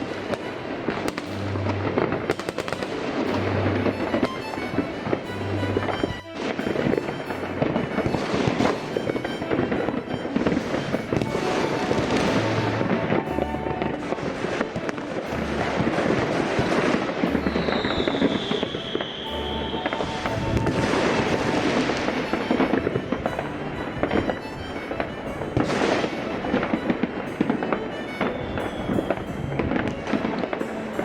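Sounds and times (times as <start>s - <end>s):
falling firework whistle: 0.0s - 30.5s
fireworks crackling and banging: 0.0s - 31.0s.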